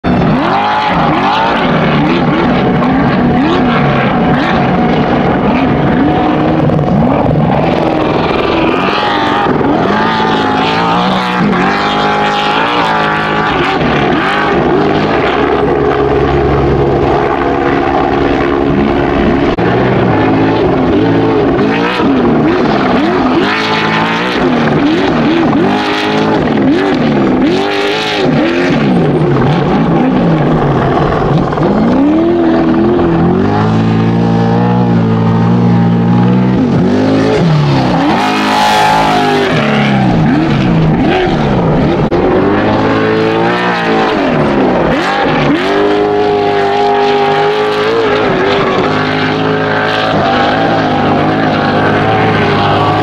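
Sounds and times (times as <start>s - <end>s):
truck engines revving hard: 0.0s - 53.0s.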